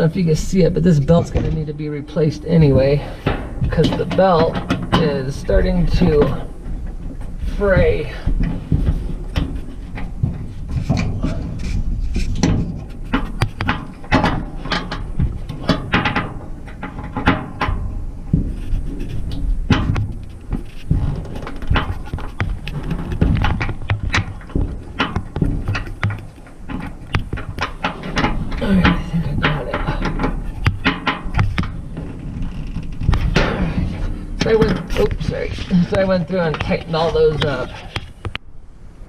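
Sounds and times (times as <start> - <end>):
low rumble: 0.0 - 39.0.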